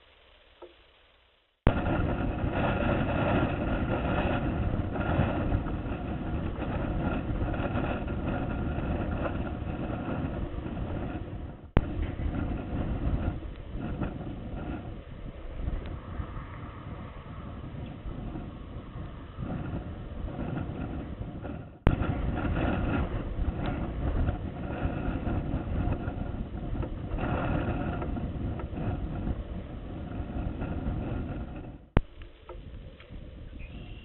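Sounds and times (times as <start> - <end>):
outdoor background rumble and hiss: 0.0 - 34.0.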